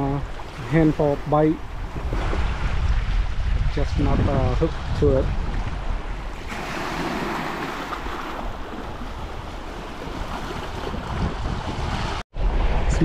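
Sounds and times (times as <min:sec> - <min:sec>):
water washing against bank: 0:00.0 - 0:13.0
wind: 0:00.0 - 0:13.0.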